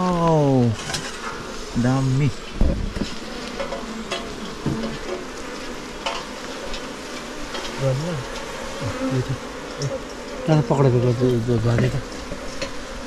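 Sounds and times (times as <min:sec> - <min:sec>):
bees buzzing: 0:00.0 - 0:13.0
crackly hiss: 0:00.0 - 0:13.0.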